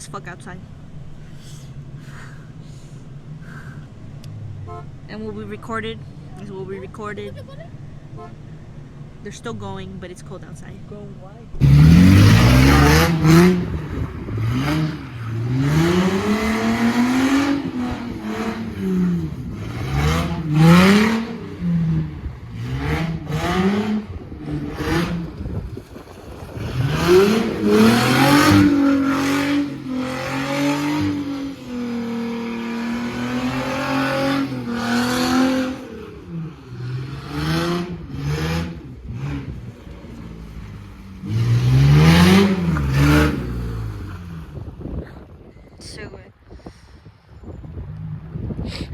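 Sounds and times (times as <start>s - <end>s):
car engine revving: 0.0s - 45.2s.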